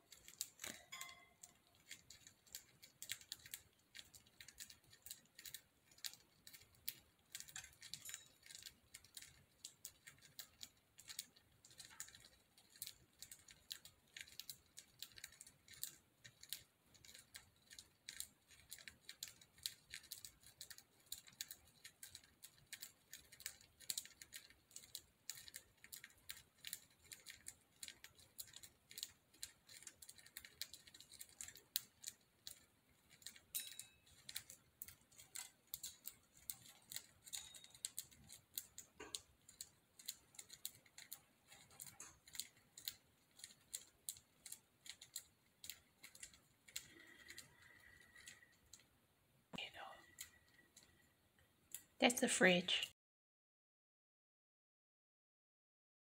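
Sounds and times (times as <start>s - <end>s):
budgies cracking seeds: 0.1s - 48.7s.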